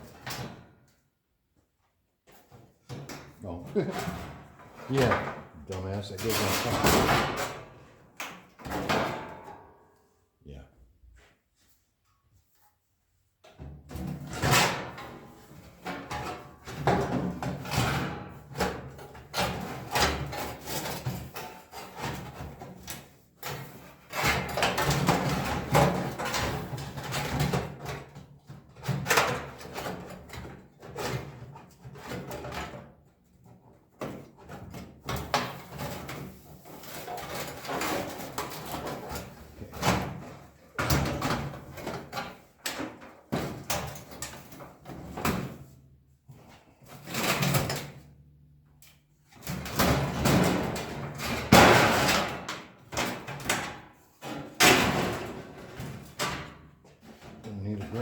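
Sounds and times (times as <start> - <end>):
sheet-metal cover clanking and rattling: 2.5 - 7.9, 8.6 - 9.6, 13.6 - 48.0, 49.3 - 58.0.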